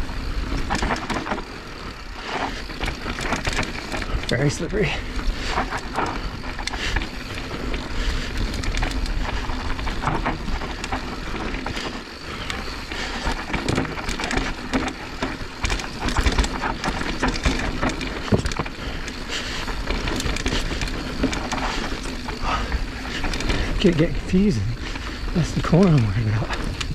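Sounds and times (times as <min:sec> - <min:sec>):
bike rattling and clicking: 0:00.0 - 0:26.9
bike tyres rolling on dirt: 0:00.0 - 0:26.9.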